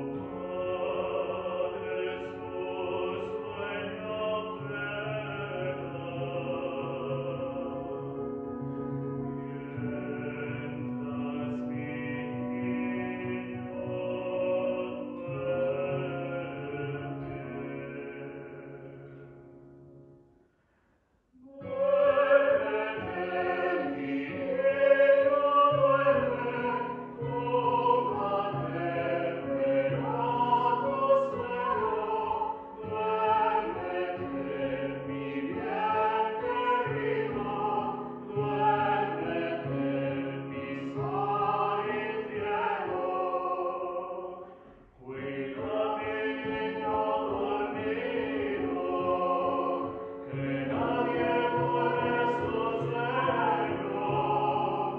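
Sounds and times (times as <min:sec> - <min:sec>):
vocal ensemble singing in harmony: 0:00.0 - 0:19.5, 0:21.4 - 0:54.9.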